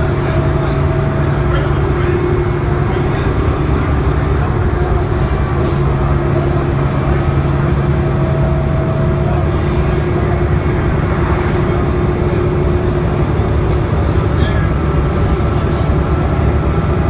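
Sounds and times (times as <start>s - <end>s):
bus diesel engine drone: 0.0s - 17.0s
road and tyre noise: 0.0s - 17.0s.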